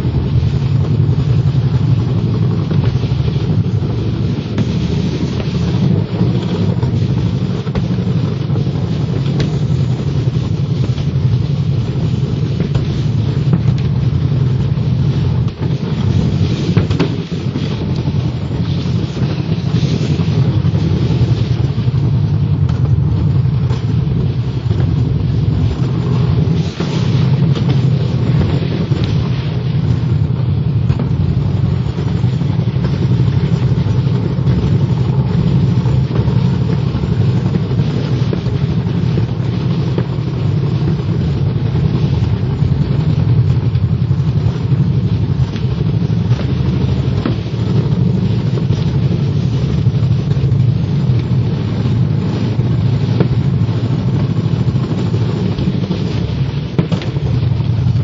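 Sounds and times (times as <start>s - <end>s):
sled rumbling on track: 0.0s - 58.0s.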